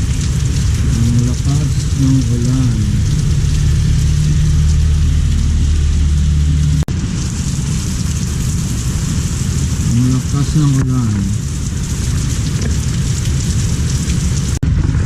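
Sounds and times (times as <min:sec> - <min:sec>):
heavy rain hissing: 0:00.0 - 0:14.6
low hum: 0:00.0 - 0:15.0.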